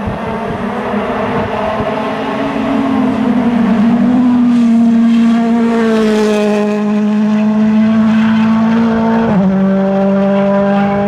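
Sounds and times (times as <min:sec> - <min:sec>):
rally car driving by at speed: 0:00.1 - 0:11.0.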